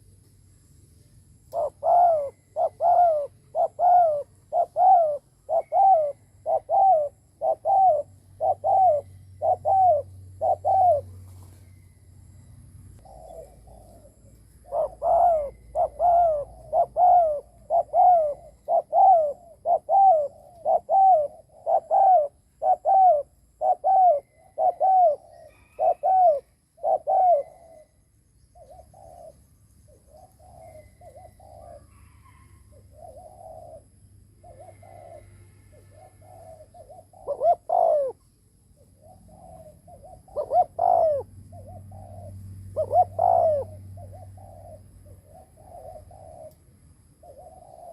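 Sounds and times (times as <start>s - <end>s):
dove cooing: 1.4s - 11.7s, 12.9s - 47.9s.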